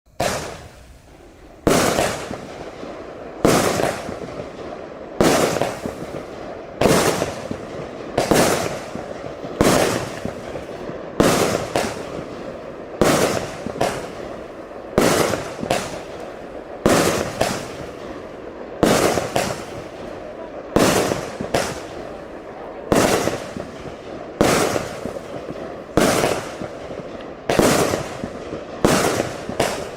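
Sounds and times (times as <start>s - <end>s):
firework battery shots: 0.1s - 29.9s.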